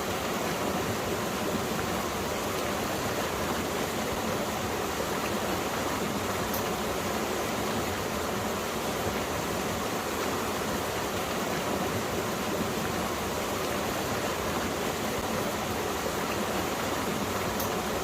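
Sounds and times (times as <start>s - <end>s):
stream flowing over rocks: 0.0s - 18.0s.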